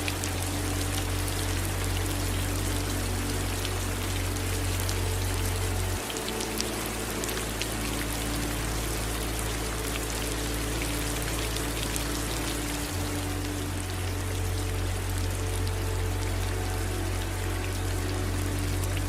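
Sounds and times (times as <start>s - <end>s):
low hum: 0.0s - 19.0s
raindrops ticking: 0.0s - 19.0s
running water rushing: 0.0s - 19.0s
steady rain: 0.0s - 19.0s.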